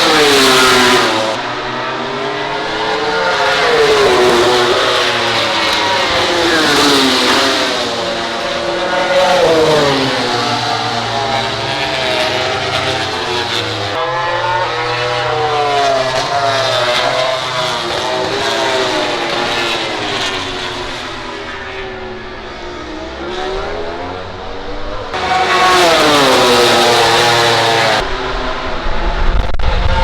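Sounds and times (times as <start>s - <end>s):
race motorcycle engines revving: 0.0s - 30.0s.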